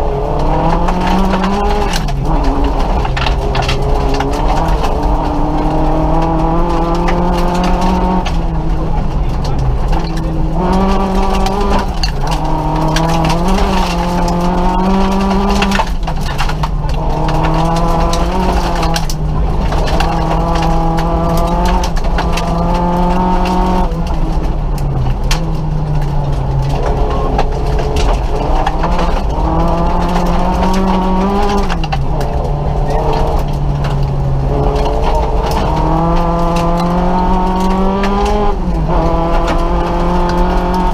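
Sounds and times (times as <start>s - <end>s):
gravel striking car: 0.0s - 40.9s
rally car engine revving: 0.0s - 40.9s.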